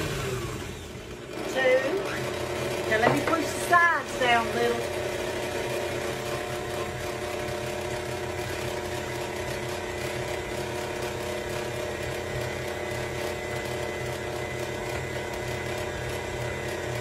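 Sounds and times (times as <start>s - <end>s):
electric mixer motor running: 0.0s - 17.0s.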